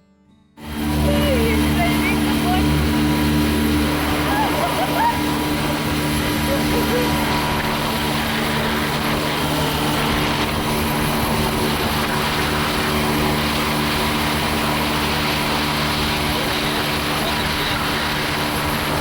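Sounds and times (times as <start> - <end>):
boat engine droning: 0.6 - 19.0
hiss of water: 0.7 - 19.0.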